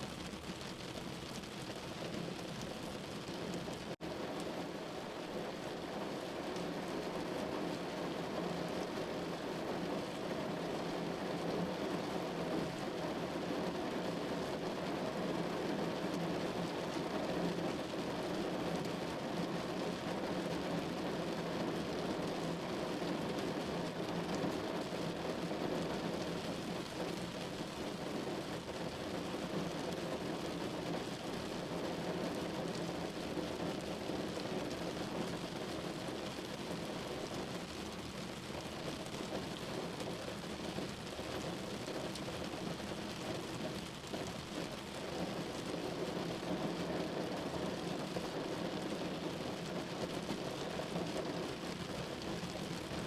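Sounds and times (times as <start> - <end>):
rain on a window: 0.0 - 53.0.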